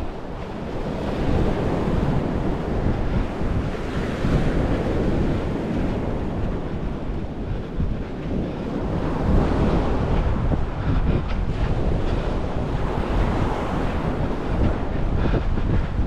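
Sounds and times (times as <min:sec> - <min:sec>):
surf washing onto beach: 0:00.0 - 0:15.8
wind rumbling on microphone: 0:00.0 - 0:16.0.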